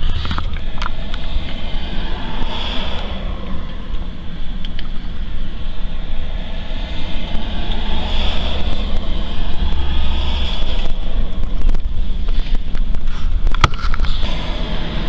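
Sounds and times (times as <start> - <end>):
gusty wind rumbling: 0.0 - 15.0.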